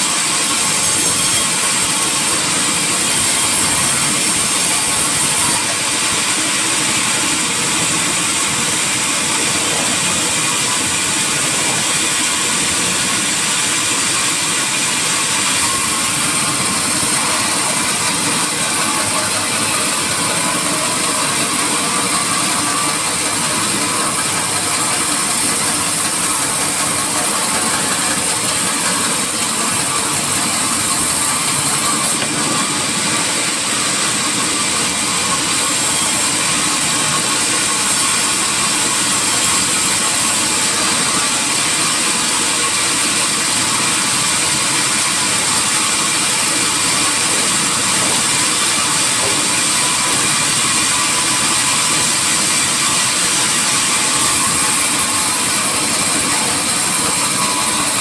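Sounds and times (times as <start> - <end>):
sawmill saw running: 0.0 - 58.0.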